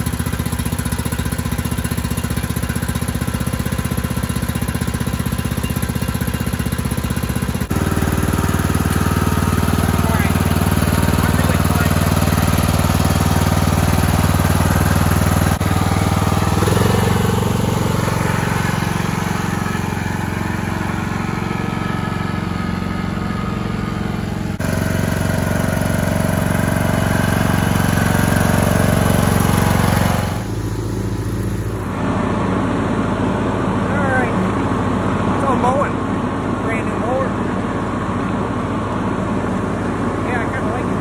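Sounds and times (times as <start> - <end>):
lawn tractor engine running: 0.0 - 41.0.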